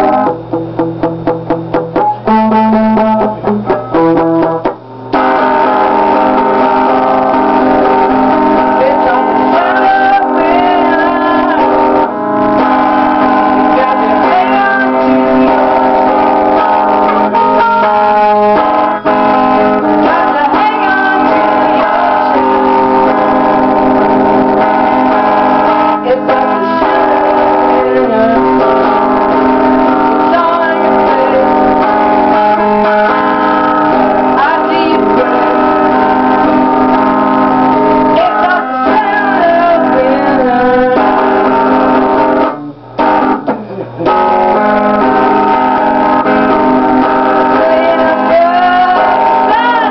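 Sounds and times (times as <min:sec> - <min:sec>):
instrumental music with chords: 0:00.0 - 0:49.9.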